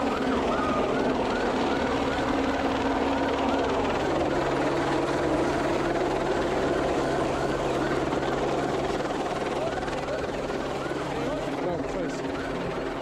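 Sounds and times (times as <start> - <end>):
helicopter engine and rotor: 0.0 - 13.0
police siren yelping: 0.0 - 13.0.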